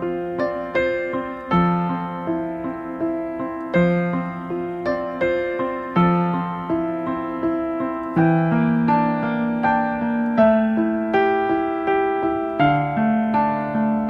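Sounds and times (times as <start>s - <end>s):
calm piano piece: 0.0s - 14.0s.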